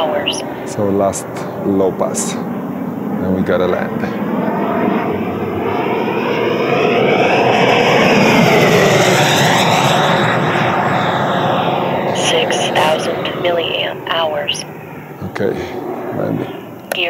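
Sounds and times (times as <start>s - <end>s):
model jet fan whine: 0.0s - 17.0s.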